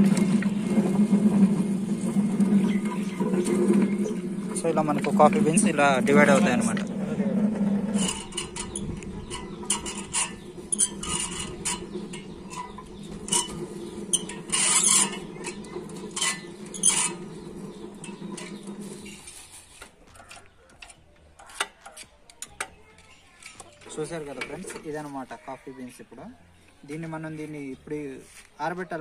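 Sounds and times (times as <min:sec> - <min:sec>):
hand-cranked machine whirring: 0:00.0 - 0:25.3.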